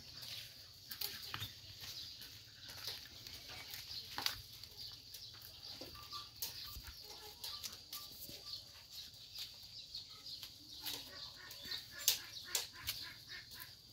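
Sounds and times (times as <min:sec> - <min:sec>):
goats chewing leaves: 0:00.0 - 0:13.9.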